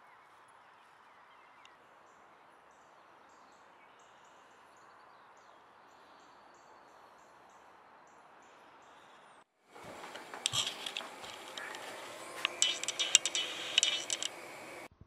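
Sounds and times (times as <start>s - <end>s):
small birds chirping: 0.0s - 14.9s
steady low hiss: 0.6s - 15.0s.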